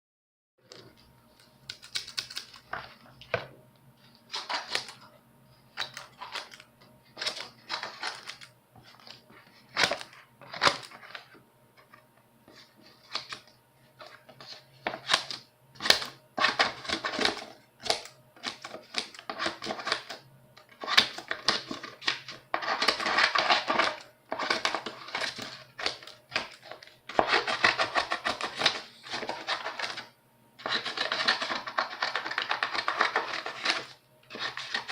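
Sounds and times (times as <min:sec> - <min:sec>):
scissors cutting paper: 0:04.3 - 0:05.0, 0:05.8 - 0:11.3, 0:12.5 - 0:13.5, 0:14.1 - 0:34.9.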